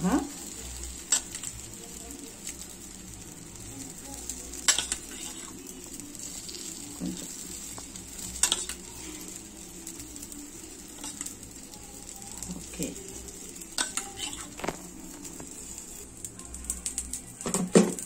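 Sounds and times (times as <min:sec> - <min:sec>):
batter sizzling in hot oil: 0:00.0 - 0:18.0.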